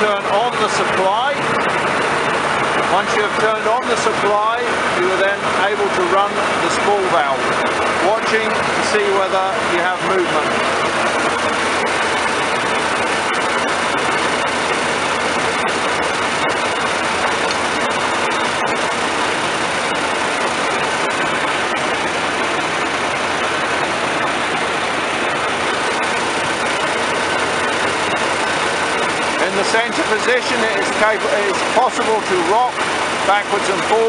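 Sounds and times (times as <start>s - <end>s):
combine engine running: 0.0s - 34.0s.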